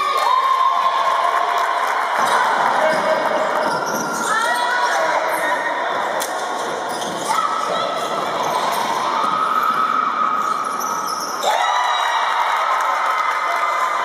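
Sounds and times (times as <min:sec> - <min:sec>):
din of spectators' voices: 0:00.0 - 0:14.0.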